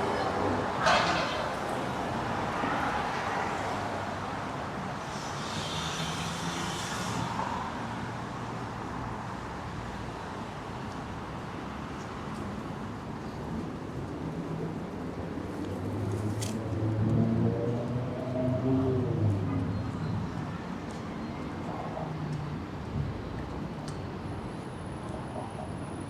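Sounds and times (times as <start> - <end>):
cars passing on street: 0.0 - 26.0.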